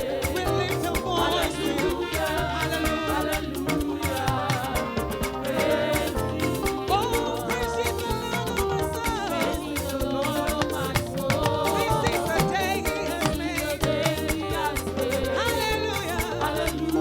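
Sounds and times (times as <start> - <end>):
upbeat worship band music: 0.0 - 17.0.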